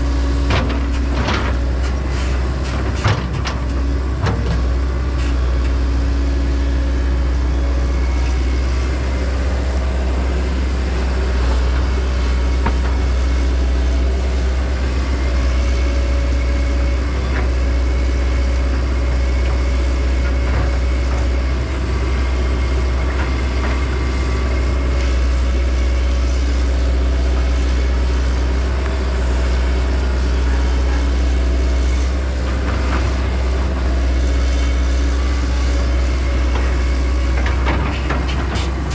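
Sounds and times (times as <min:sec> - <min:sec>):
diesel engines running: 0:00.0 - 0:38.9.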